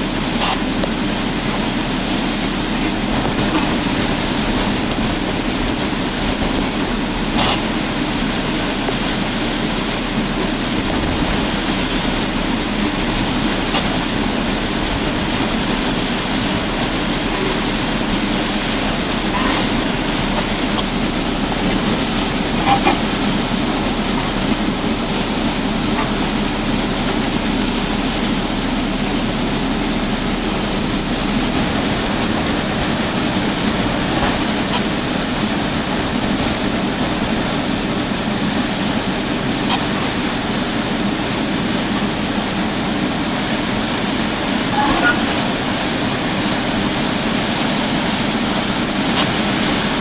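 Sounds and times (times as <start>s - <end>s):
driving rain: 0.0s - 50.0s
hurricane wind: 0.0s - 50.0s
waves splashing against seawall: 0.0s - 50.0s.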